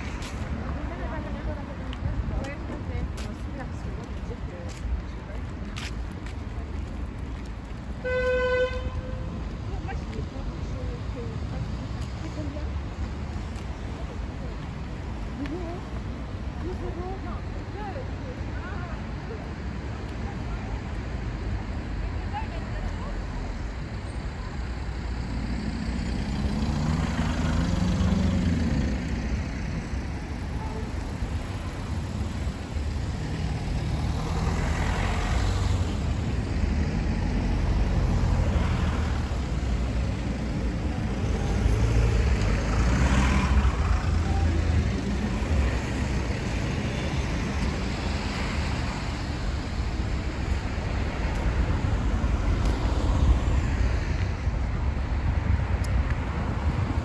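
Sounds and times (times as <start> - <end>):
road traffic rumble: 0.0 - 57.0
vehicles passing by: 0.0 - 57.0.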